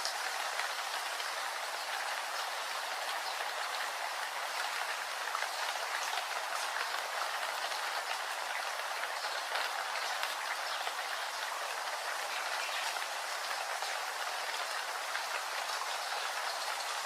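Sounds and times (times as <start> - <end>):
patter of raindrops: 0.0 - 17.0
steady rain hiss: 0.0 - 17.0.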